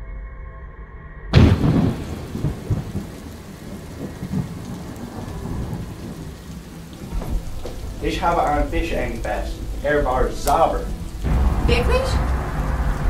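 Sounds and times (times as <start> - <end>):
low rumbles of thunder: 1.4 - 13.0
steady rain: 1.4 - 13.0
thunderclap: 1.4 - 13.0.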